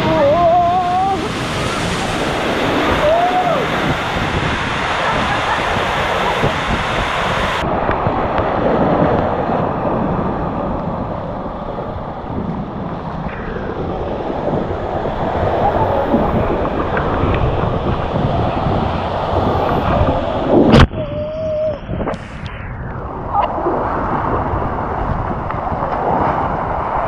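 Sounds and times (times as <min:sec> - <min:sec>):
water rushing and splashing: 0:00.0 - 0:27.0
wind buffeting microphone: 0:00.0 - 0:27.0.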